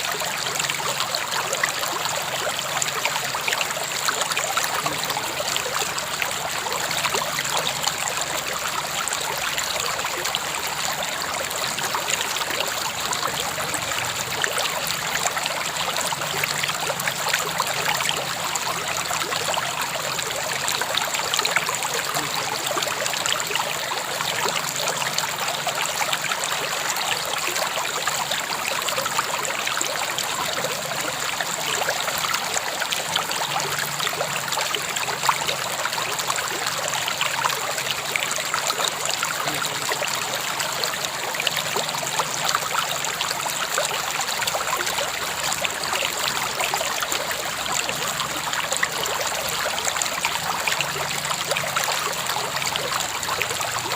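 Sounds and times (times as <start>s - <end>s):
river water flowing and babbling: 0.0s - 53.9s.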